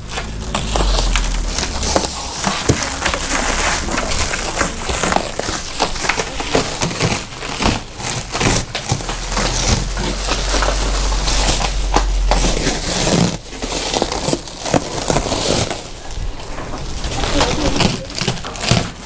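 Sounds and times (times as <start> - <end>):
steady low rumble: 0.0 - 18.1
plastic film crackling: 0.0 - 19.0.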